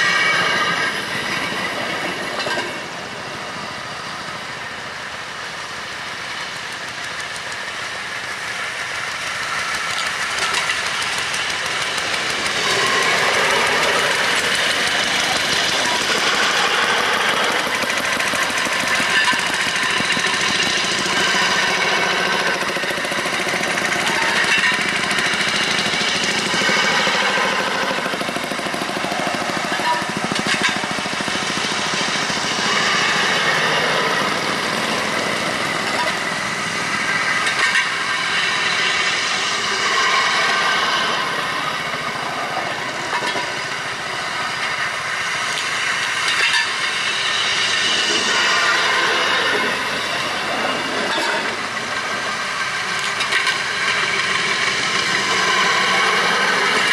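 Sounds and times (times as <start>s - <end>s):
small rail car engines chattering: 0.0s - 56.9s.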